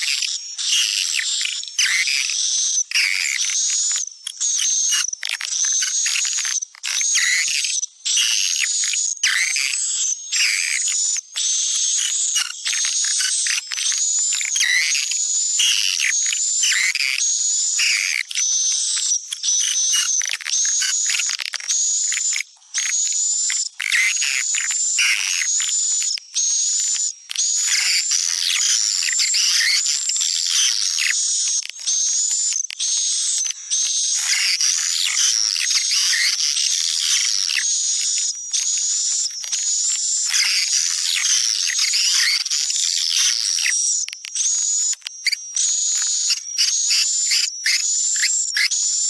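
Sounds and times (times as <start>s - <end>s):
high-pitched bird twittering chirps: 0.0s - 48.9s.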